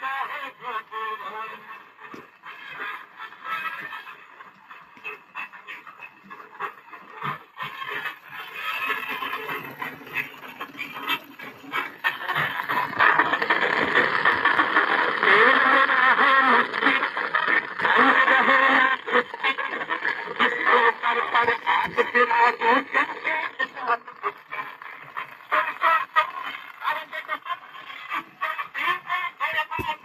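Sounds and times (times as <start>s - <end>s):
gramophone playing record: 0.0s - 30.0s
record surface crackle: 0.0s - 30.0s.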